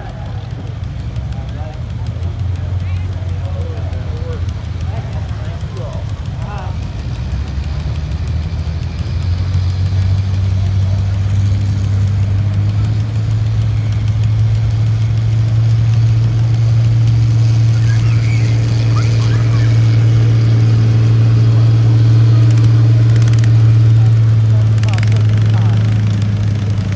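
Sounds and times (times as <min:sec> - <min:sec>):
tractor engine droning: 0:00.0 - 0:26.9.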